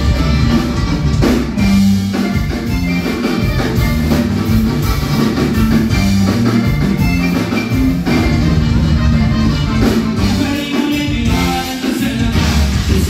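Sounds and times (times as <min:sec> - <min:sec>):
drums: 0:00.0 - 0:13.0
live band through speakers: 0:00.0 - 0:13.0
repeating bass line: 0:00.0 - 0:13.0.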